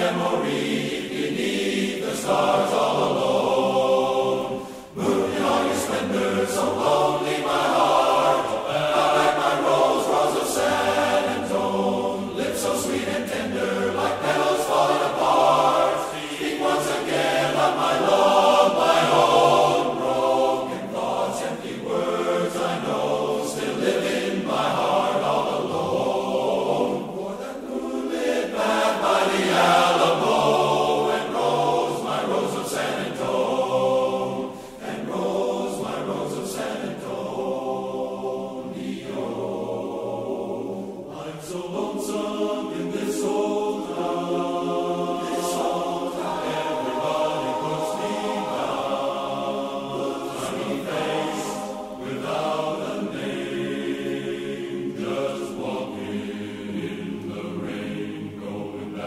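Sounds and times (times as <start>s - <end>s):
men's chorus singing a cappella: 0.0s - 59.0s.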